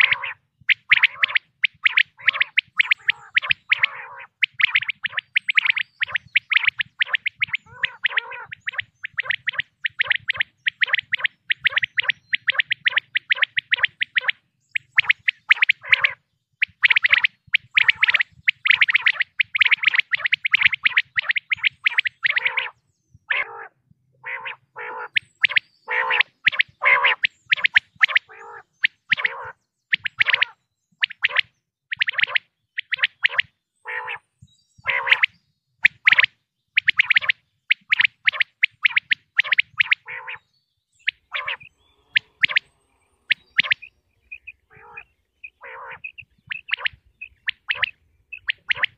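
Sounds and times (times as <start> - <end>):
quail calls: 0.0 - 48.9.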